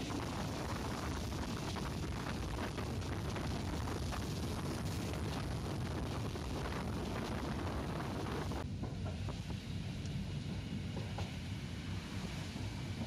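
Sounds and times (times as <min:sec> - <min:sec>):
tram rumbling along track: 0:00.0 - 0:13.0.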